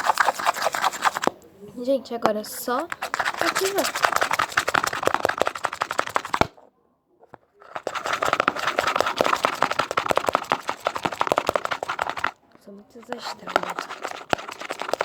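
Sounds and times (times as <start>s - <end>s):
utensil scraping container: 0.0s - 1.4s, 2.2s - 6.6s, 7.6s - 15.0s.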